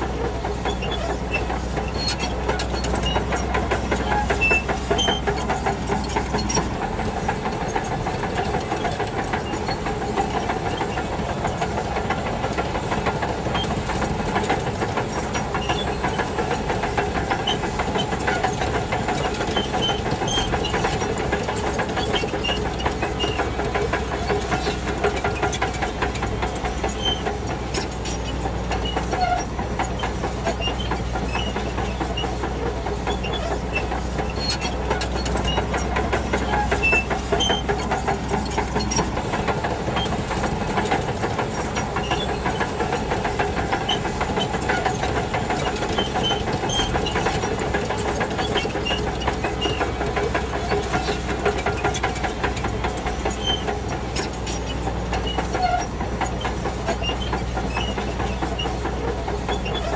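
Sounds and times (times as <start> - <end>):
diesel engine running: 0.0 - 59.9
steel tracks clattering: 0.0 - 59.9.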